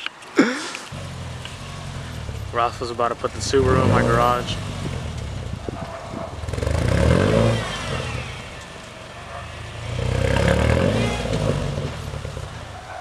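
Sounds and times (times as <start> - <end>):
car engine revving: 0.9 - 13.0.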